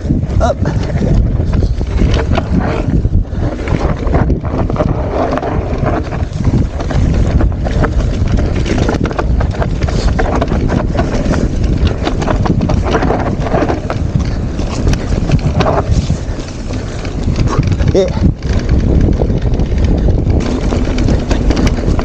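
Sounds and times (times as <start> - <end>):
bike rattling: 0.0 - 22.0
wind rumbling on microphone: 0.0 - 22.0.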